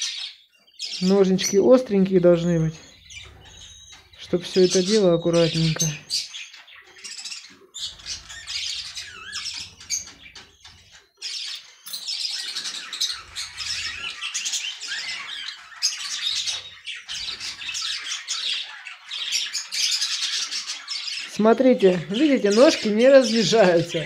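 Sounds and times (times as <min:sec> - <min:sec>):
budgerigars chirping and squawking: 0:00.0 - 0:24.0.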